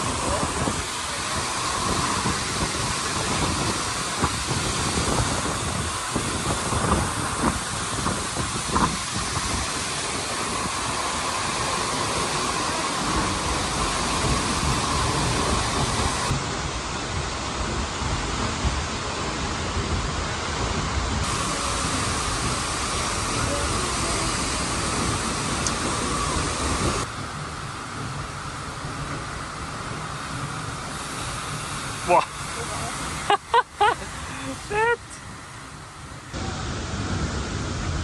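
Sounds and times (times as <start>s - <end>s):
waterfall rushing: 0.0s - 20.4s, 21.2s - 38.0s.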